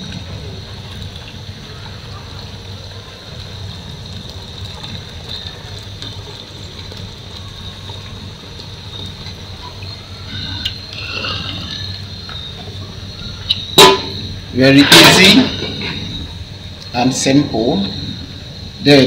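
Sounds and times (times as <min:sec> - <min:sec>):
water pouring into metal pot: 0:00.0 - 0:19.0.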